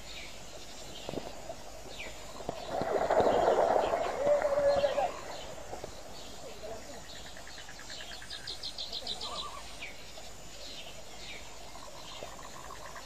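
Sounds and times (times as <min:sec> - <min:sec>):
insect background hum: 0:00.0 - 0:13.0.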